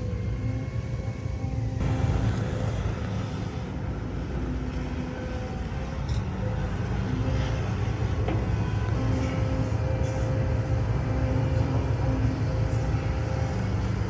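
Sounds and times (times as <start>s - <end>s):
heavy diesel machinery rumbling: 0.0s - 14.0s.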